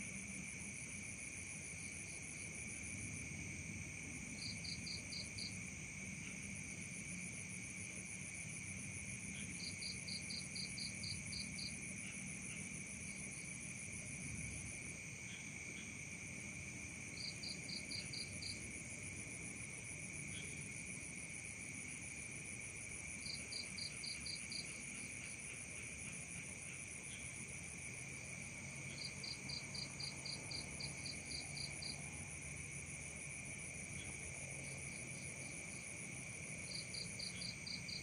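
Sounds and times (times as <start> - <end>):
crickets and insects trilling: 0.0 - 38.0.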